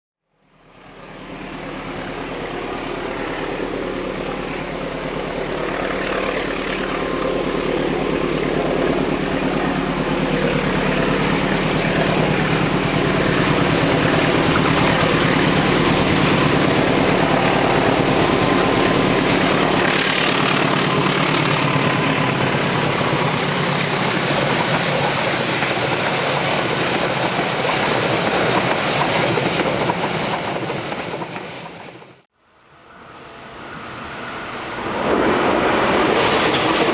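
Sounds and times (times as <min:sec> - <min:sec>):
locomotive engine drone: 0:00.3 - 0:30.8
train carriages rolling by: 0:00.8 - 0:36.9.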